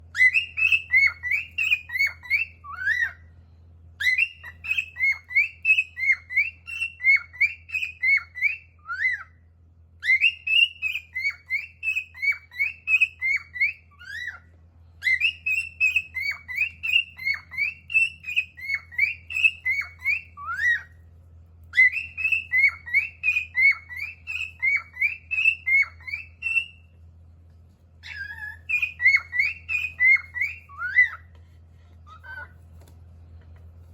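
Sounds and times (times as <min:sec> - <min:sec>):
steady low hum: 0:00.0 - 0:33.9
cockatiel whistling song: 0:00.1 - 0:03.3, 0:04.0 - 0:21.0, 0:21.7 - 0:26.9, 0:28.0 - 0:31.3, 0:32.0 - 0:32.6.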